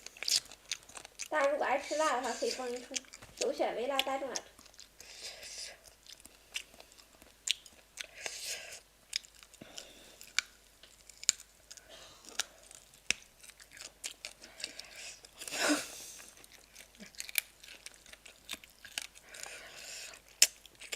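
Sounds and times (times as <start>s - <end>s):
chewing and crunching: 0.0s - 20.9s.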